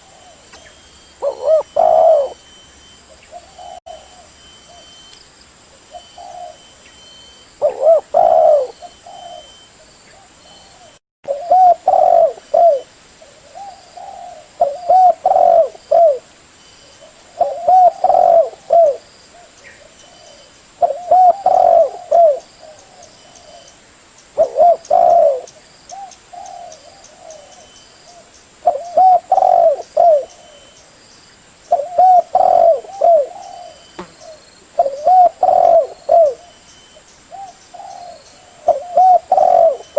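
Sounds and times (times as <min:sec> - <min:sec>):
dove cooing: 0:00.0 - 0:02.5, 0:03.1 - 0:04.9, 0:05.9 - 0:06.8, 0:07.6 - 0:16.3, 0:16.9 - 0:23.7, 0:24.4 - 0:30.8, 0:31.7 - 0:36.6, 0:37.3 - 0:39.9.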